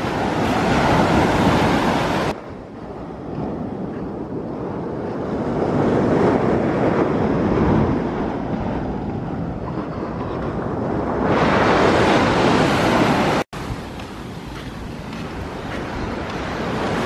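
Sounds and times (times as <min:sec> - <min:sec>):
rough sea surf: 0:00.0 - 0:17.0
wind buffeting microphone: 0:00.0 - 0:17.0.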